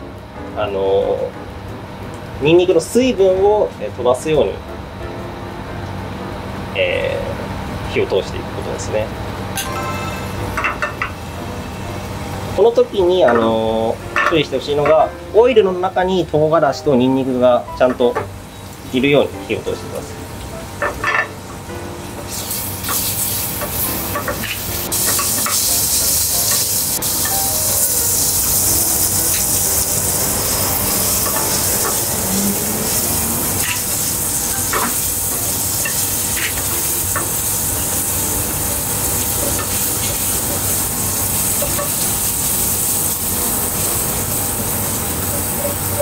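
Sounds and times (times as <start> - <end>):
garlic sizzling in a pan: 8.8 - 46.0.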